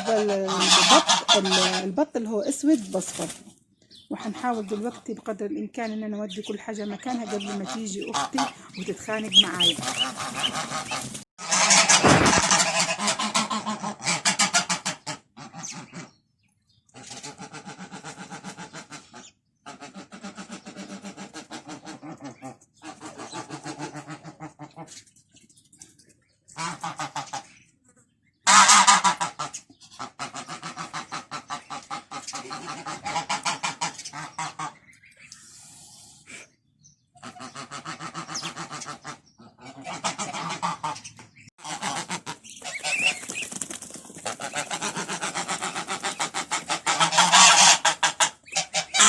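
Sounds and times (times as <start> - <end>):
geese honking: 0.0 - 2.1, 5.8 - 16.2, 16.9 - 25.0, 26.5 - 27.7, 28.4 - 35.4, 37.2 - 49.0
ducks quacking: 0.0 - 3.4, 4.0 - 16.3, 16.9 - 25.2, 26.5 - 35.4, 37.1 - 49.0.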